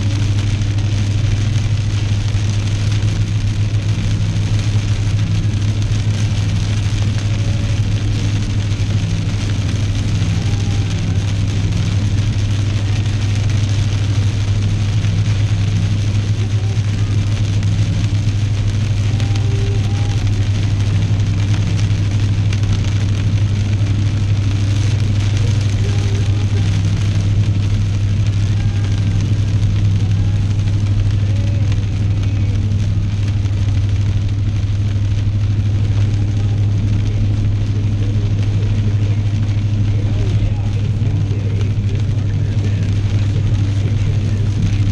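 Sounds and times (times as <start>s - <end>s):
car engine and tyres drone: 0.0s - 44.9s
rain hissing on car: 0.0s - 44.9s.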